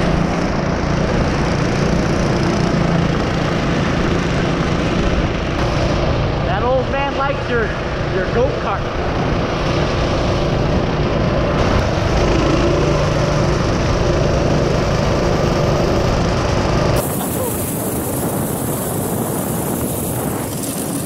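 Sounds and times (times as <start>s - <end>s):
small gasoline engine running hard: 0.0s - 21.0s.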